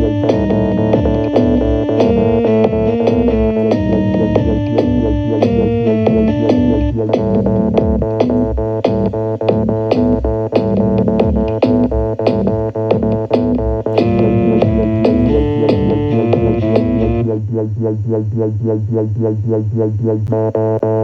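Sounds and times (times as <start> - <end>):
drum machine beat: 0.0 - 17.7
bass line: 0.0 - 21.0
synthesizer chords: 0.0 - 21.0.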